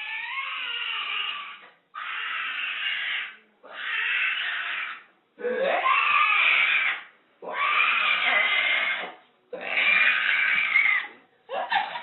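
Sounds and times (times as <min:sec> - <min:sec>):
animal raspy drawn-out cries: 0:00.0 - 0:11.2.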